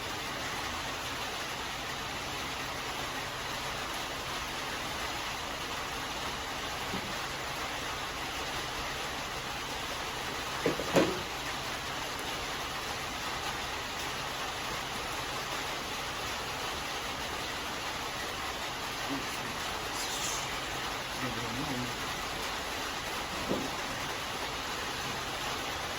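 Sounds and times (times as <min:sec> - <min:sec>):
steady background hiss: 0:00.0 - 0:25.9.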